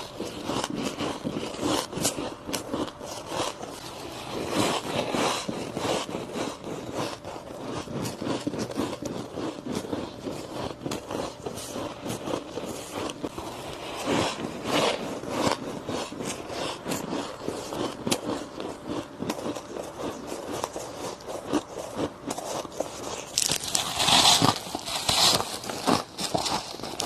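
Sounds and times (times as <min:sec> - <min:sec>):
biting and crunching ice: 0:00.0 - 0:27.0.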